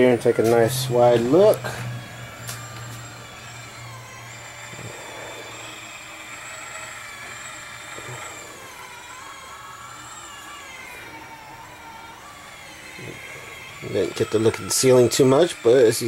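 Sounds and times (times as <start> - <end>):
machine humming and whining: 0.0 - 16.0.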